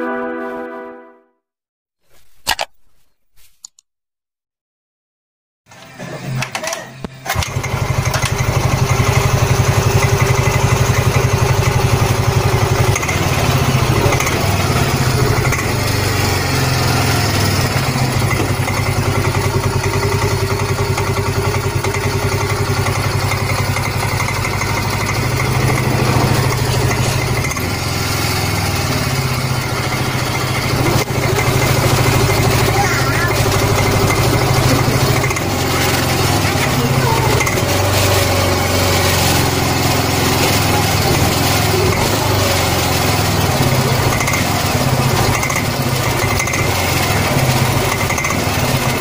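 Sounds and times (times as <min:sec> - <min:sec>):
scooter engine idling: 0:07.2 - 0:49.0.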